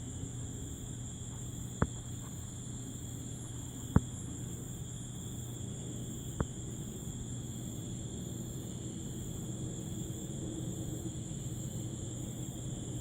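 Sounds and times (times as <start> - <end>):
insect chorus shrill drone: 0.0 - 13.0.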